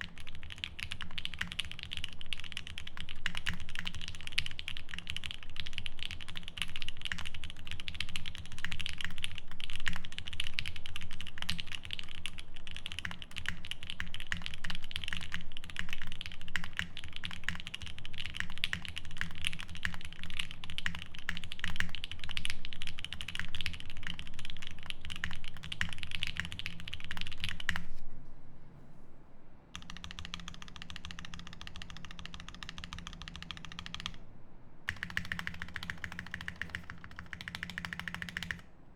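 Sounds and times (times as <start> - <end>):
fast typing on mechanical keyboard: 0.0 - 27.9, 29.8 - 34.2, 34.9 - 38.7
faint steady sound: 0.0 - 38.9.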